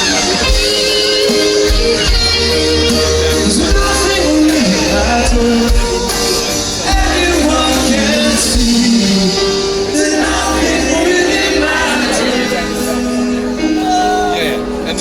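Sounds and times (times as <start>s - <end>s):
live rock band: 0.0s - 15.0s.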